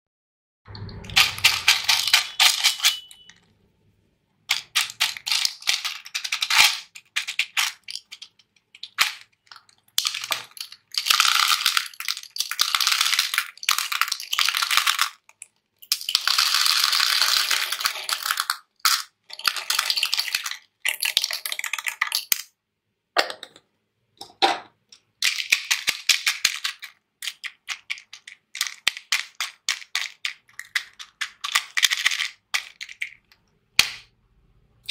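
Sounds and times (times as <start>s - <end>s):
small hard pieces rattling into tub: 1.0s - 3.4s, 4.5s - 22.4s, 25.2s - 33.2s.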